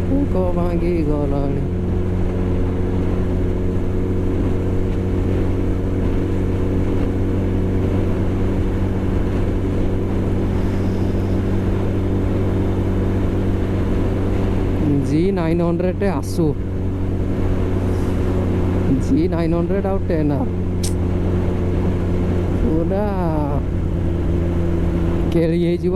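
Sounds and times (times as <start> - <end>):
vehicle engine droning: 0.0 - 25.9.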